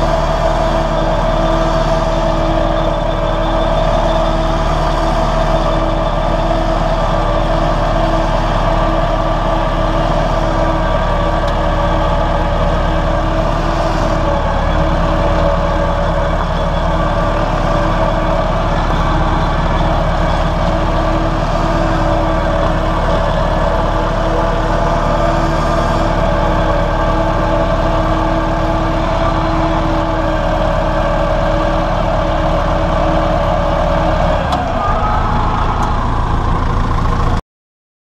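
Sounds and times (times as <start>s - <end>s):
tractor diesel engine running: 0.0s - 37.4s.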